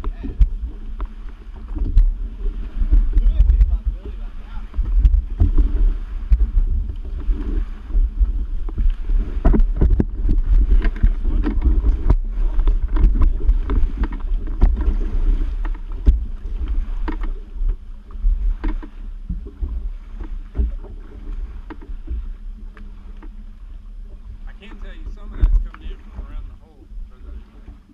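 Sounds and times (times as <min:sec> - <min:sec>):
personal watercraft engine running: 0:00.0 - 0:27.9
water slapping against hull: 0:00.0 - 0:27.9
wind buffeting microphone: 0:00.0 - 0:27.9.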